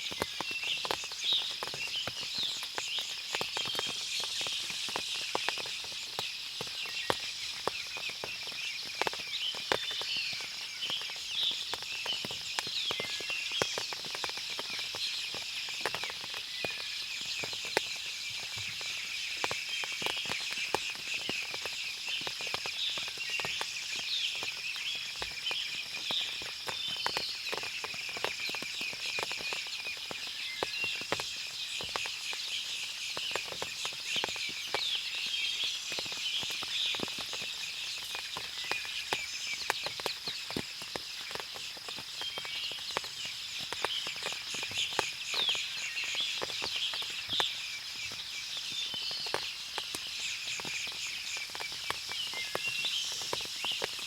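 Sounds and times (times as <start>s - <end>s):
birds chirping: 0.0s - 54.0s
water dripping from trees: 0.0s - 54.0s.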